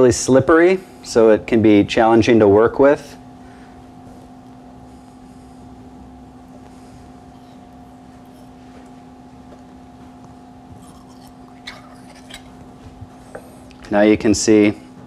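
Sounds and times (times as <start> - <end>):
kitchen hum: 0.0 - 15.0.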